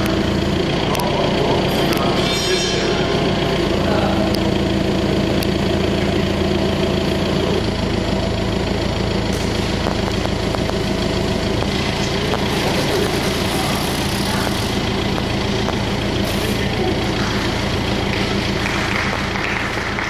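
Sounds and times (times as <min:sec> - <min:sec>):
telehandler engine running: 0:00.0 - 0:20.0.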